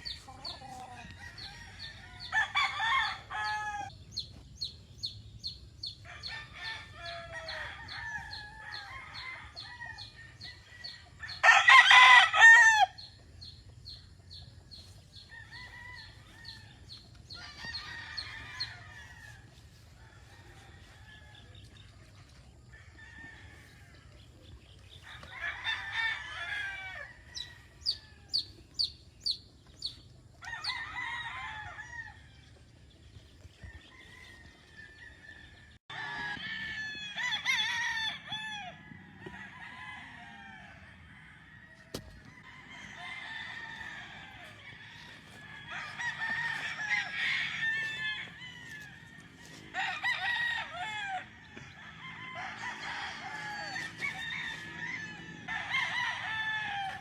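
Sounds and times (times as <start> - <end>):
roosters crowing: 0.0 - 4.0, 5.8 - 28.6, 29.7 - 57.0.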